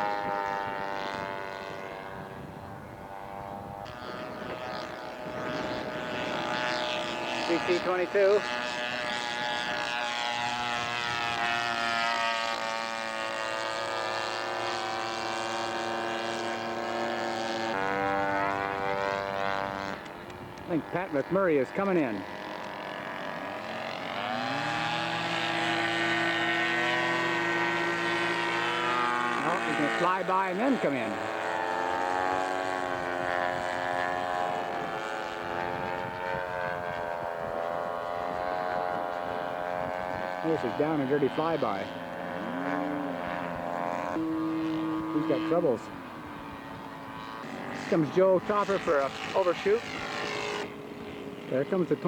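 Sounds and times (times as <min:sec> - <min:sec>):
model airplane engine buzzing: 0:00.0 - 0:52.0.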